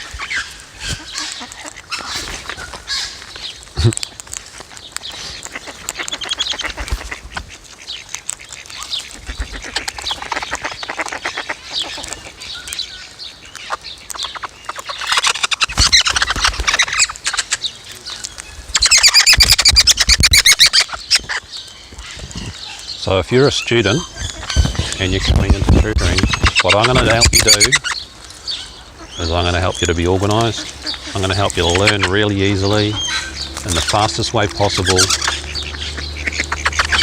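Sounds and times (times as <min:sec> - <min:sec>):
parrots squawking and chattering: 0:00.0 - 0:37.0.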